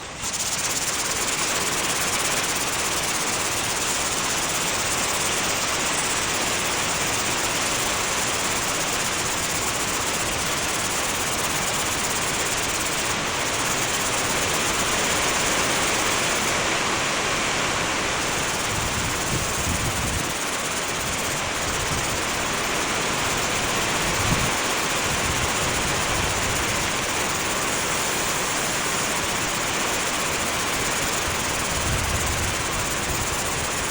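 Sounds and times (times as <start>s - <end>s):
rain hiss: 0.0s - 33.9s.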